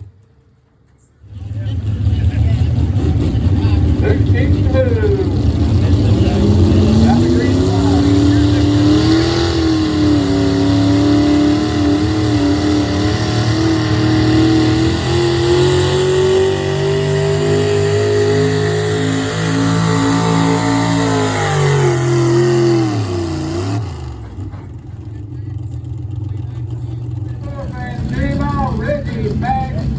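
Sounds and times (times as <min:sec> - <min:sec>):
pulling vehicle engine under load: 0:05.3 - 0:29.9.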